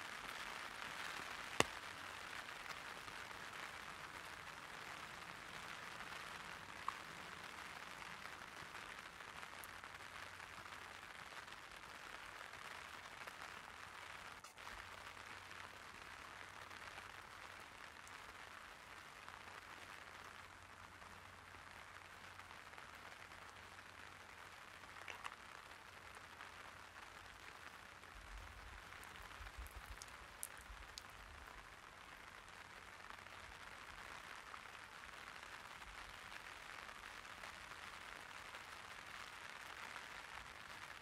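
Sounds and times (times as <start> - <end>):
light rain on an umbrella: 0.0 - 41.0.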